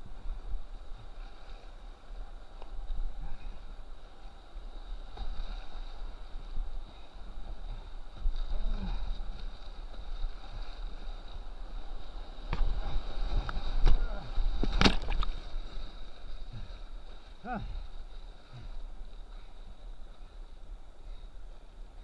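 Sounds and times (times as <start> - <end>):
paddle strokes splashing: 0.2 - 20.5.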